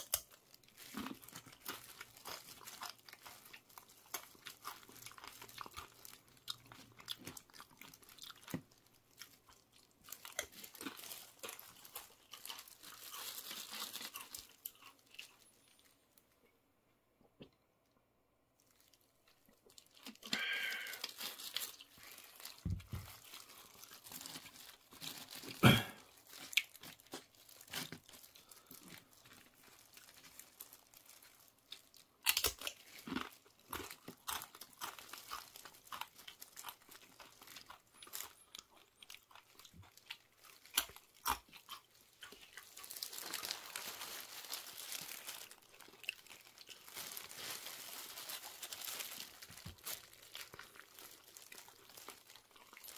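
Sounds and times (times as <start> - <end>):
paper wrapper crinkling: 0.0 - 16.0, 18.6 - 38.7, 39.4 - 52.9
crunching and chewing chips: 0.0 - 16.3, 18.6 - 52.9.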